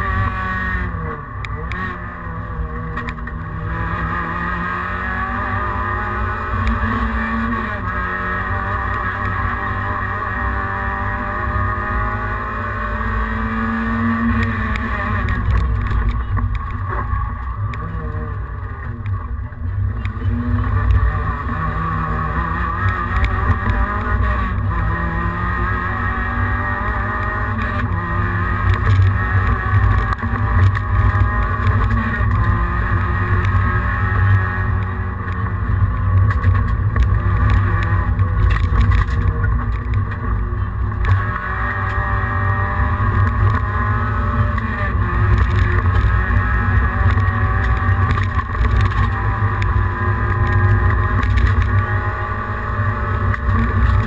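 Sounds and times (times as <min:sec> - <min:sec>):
rally car engine revving high: 0:00.0 - 0:54.0.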